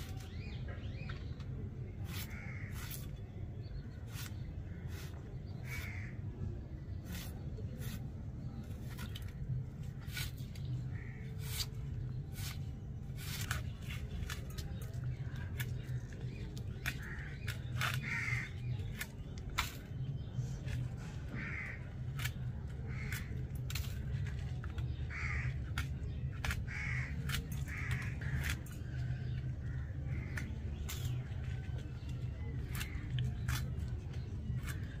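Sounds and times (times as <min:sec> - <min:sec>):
birds harsh calls: 0:00.0 - 0:09.3, 0:09.9 - 0:35.0
steady low rumble: 0:00.0 - 0:35.0.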